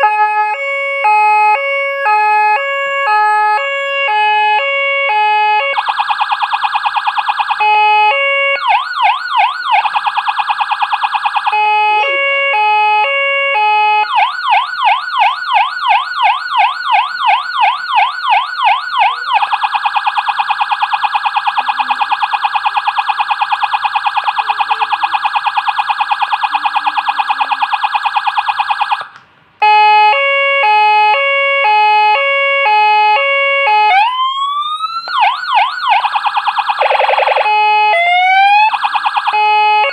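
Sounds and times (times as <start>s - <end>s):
electronic siren: 0.0s - 39.9s.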